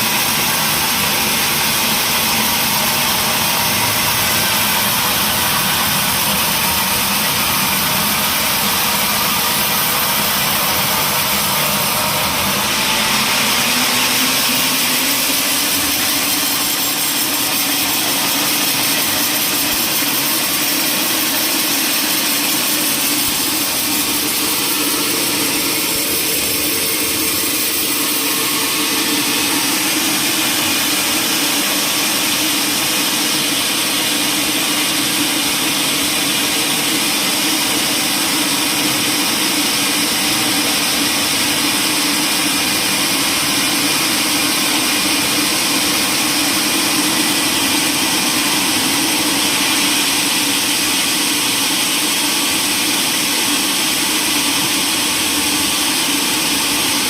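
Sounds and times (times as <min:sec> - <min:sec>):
high constant whine: 0:00.0 - 0:57.0
sawmill machinery drone: 0:00.0 - 0:57.0.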